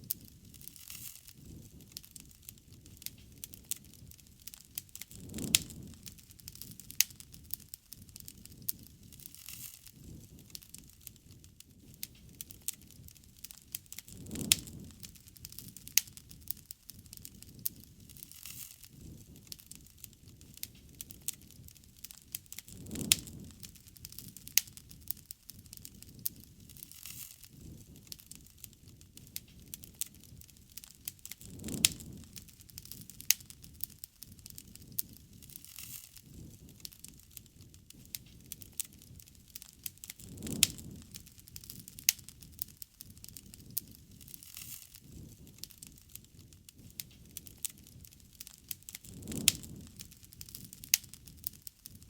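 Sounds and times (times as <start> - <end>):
campfire crackling and popping: 0.0 - 52.0
low flame rush: 0.0 - 52.0.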